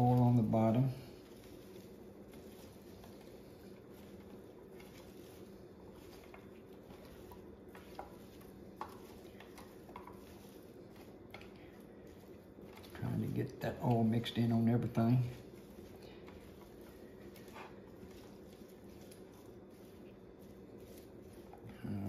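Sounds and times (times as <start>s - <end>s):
hands tossing food squishing: 0.0s - 22.0s
steady low hum: 0.0s - 22.0s.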